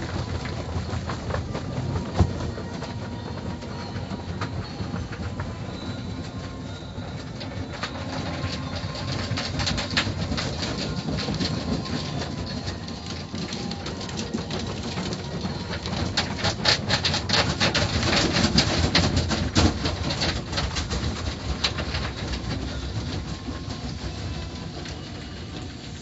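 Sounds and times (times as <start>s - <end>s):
car wash equipment running: 0.0s - 26.0s.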